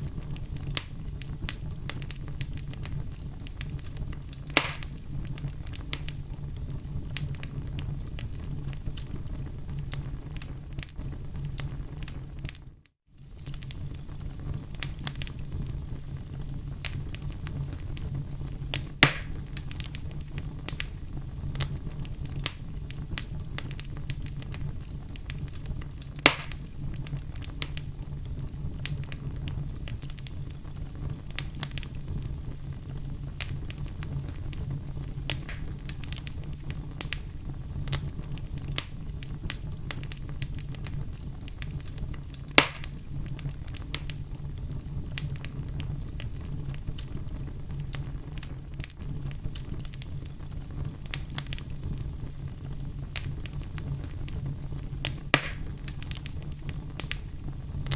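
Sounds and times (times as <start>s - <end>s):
fire crackling: 0.0s - 57.9s
loud fire pops: 0.0s - 57.9s
wood fire rumbling: 0.0s - 57.9s.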